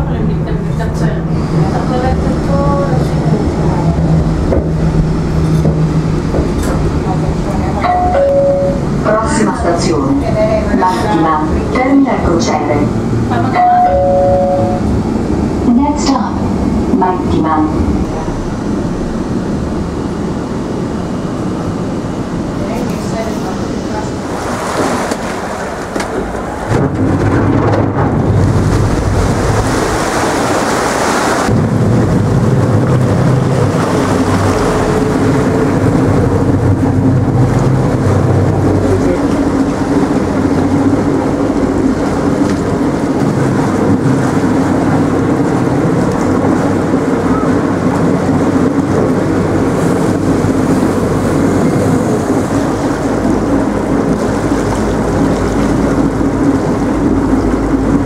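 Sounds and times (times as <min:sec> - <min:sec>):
boat engine droning: 0:00.0 - 0:58.0
wind buffeting microphone: 0:00.0 - 0:58.0.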